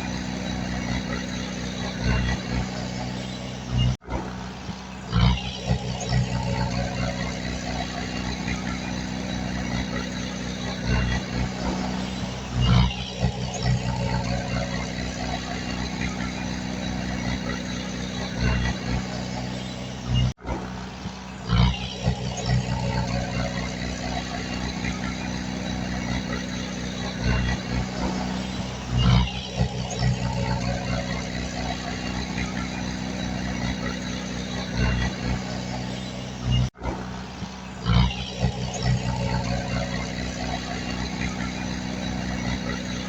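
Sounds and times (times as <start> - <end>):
heavy machinery diesel engine revving: 0.0 - 43.0.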